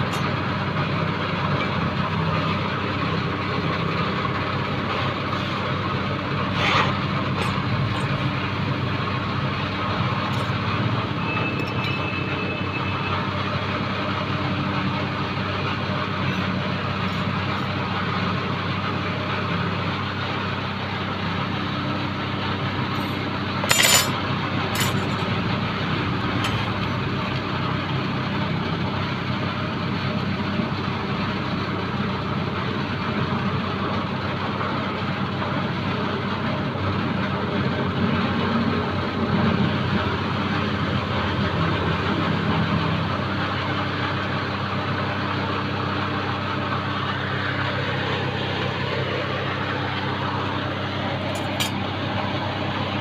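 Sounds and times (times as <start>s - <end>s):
low mechanical drone: 0.0s - 53.0s.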